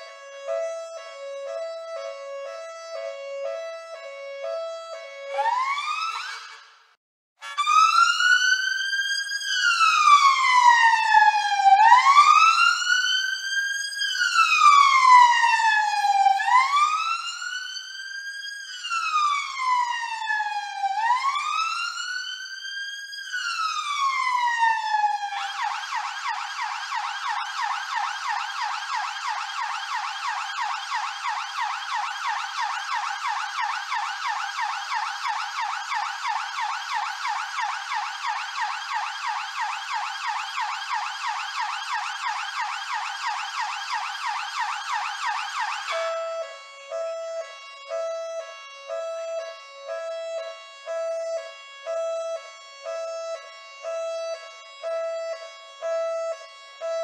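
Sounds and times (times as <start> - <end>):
police siren wailing and yelping: 0.0 - 6.7, 7.4 - 57.0.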